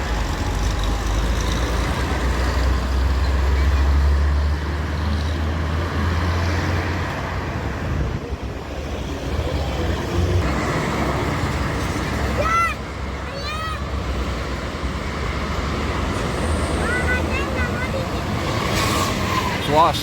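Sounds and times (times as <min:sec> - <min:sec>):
highway traffic rushing: 0:00.0 - 0:20.0.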